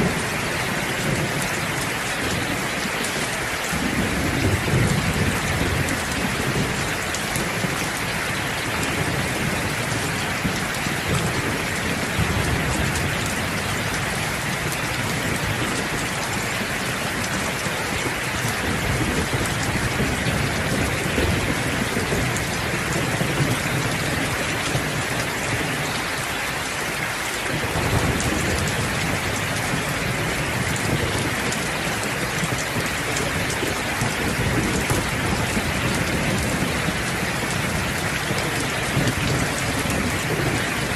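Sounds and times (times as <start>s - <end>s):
low thunder rumble: 0.0s - 26.1s, 27.4s - 40.9s
heavy rain hissing: 0.0s - 40.9s.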